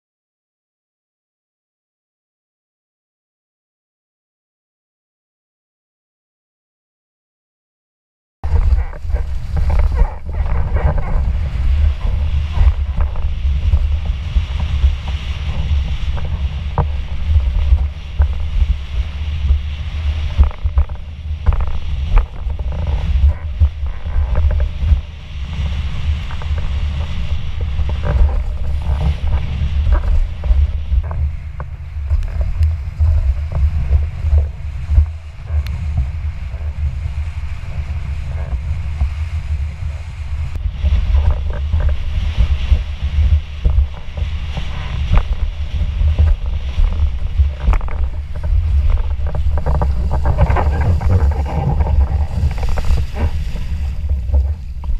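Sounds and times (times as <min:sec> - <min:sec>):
wind buffeting microphone: 0:08.4 - 0:54.9
water rushing past board: 0:08.5 - 0:54.9.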